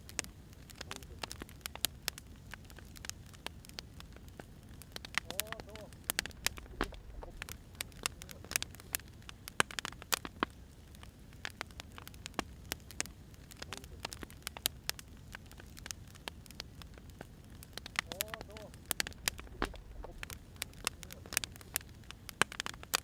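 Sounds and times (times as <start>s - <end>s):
low steady hiss: 0.0s - 23.0s
wood fire crackling: 0.0s - 23.0s.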